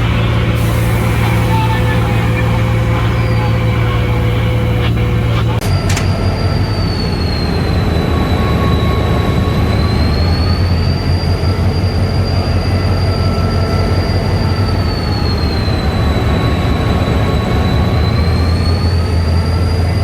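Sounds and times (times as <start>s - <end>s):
diesel locomotive engine droning: 0.0s - 20.0s
high whine: 0.0s - 20.0s.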